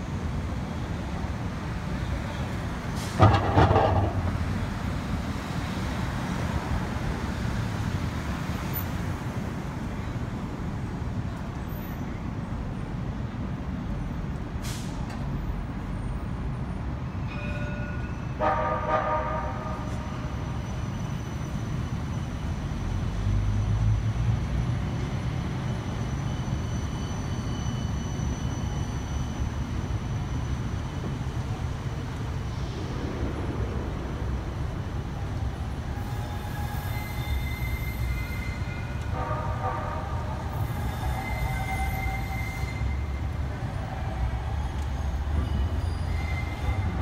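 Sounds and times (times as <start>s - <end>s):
city traffic: 0.0s - 47.0s
tram passing with low rumble: 0.0s - 47.0s.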